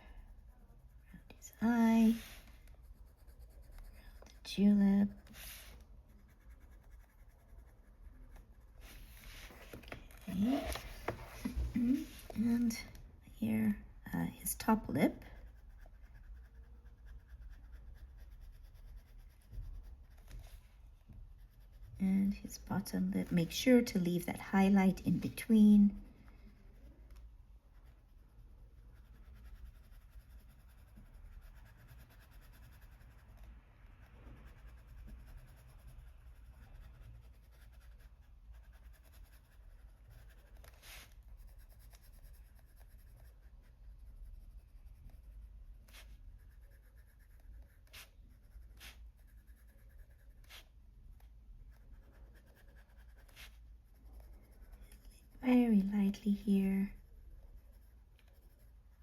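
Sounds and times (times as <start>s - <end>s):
pencil scratching on paper: 0.0s - 59.0s.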